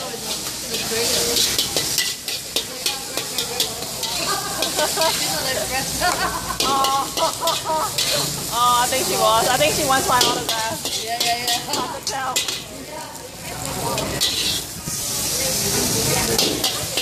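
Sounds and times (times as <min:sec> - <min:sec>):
food sizzling in a wok: 0:00.0 - 0:17.0
metal spatula scraping wok: 0:00.0 - 0:17.0.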